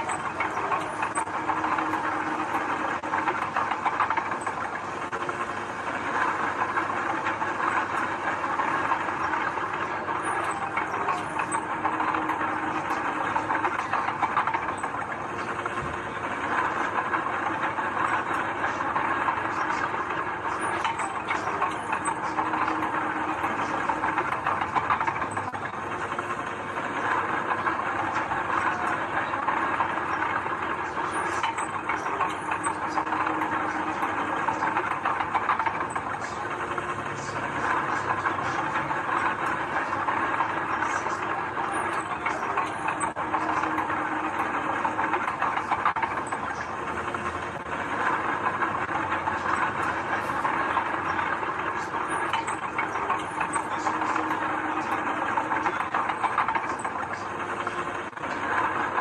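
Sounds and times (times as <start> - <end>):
continuous rattling clatter: 0.0 - 59.0.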